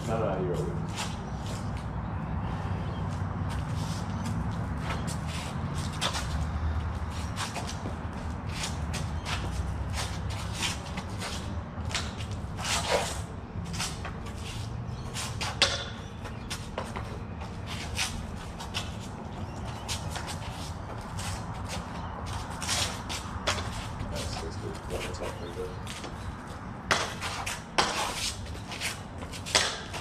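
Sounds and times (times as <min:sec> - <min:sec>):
shuffling footsteps: 0:00.0 - 0:30.0.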